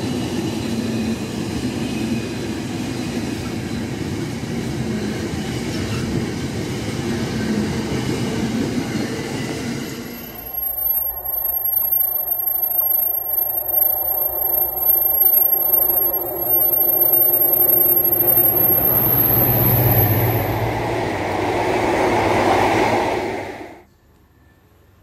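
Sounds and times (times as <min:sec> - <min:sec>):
diesel locomotive engine: 0:00.0 - 0:24.8
wheel and rail noise: 0:03.4 - 0:24.2.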